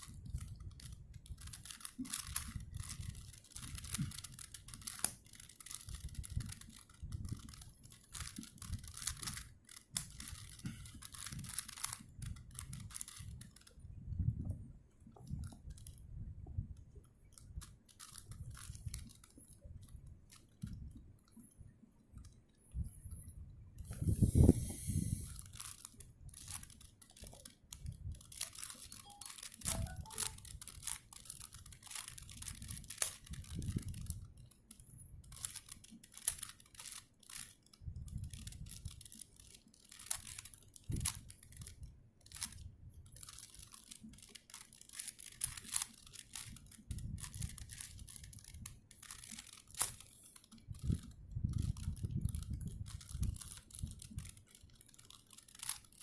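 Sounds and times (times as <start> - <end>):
puzzle cube plastic clicks: 0.0 - 13.8, 17.6 - 19.4, 23.8 - 56.0.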